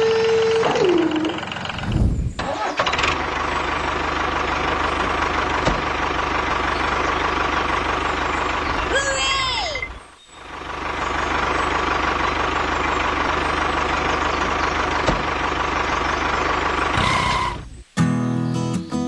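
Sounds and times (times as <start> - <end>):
vehicle engine running: 0.0 - 17.8.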